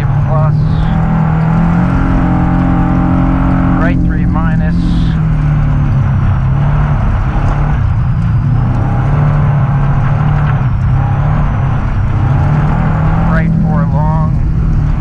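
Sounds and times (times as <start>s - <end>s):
rally car engine revving: 0.0s - 15.0s
tyre road noise on snow: 0.0s - 15.0s.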